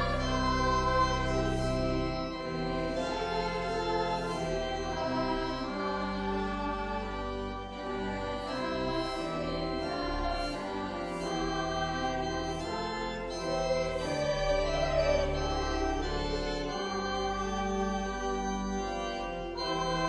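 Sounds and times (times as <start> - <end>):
held organ-like chords: 0.0 - 20.0.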